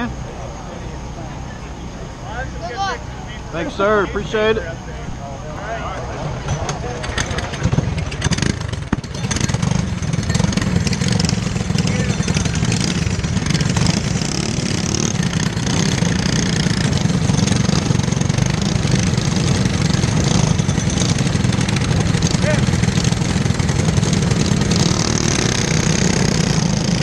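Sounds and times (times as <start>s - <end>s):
kart engine idling: 0.0s - 27.0s
other kart engines running: 0.0s - 27.0s.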